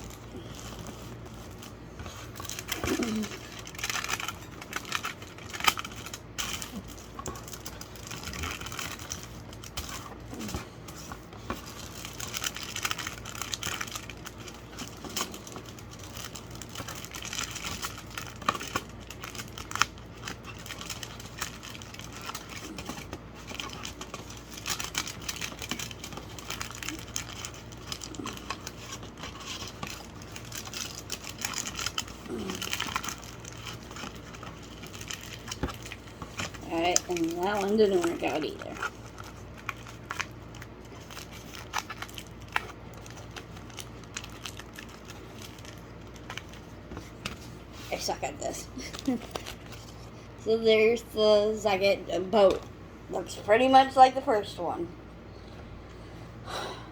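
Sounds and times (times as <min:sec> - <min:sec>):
aluminium foil crinkling: 0:00.0 - 0:54.4.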